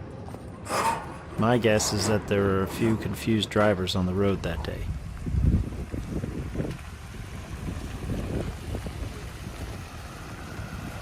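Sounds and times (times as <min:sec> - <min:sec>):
vehicle road noise rumble: 0:00.0 - 0:11.0
wind buffeting microphone: 0:01.2 - 0:11.0.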